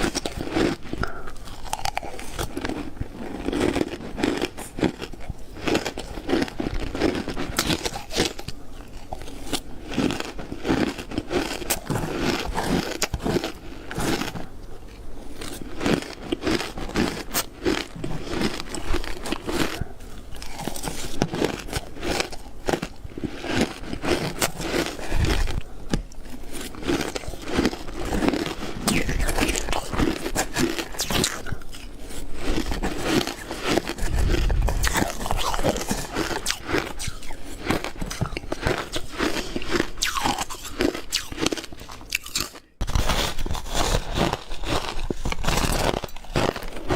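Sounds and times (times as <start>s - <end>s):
ice being chewed: 0.0s - 46.9s.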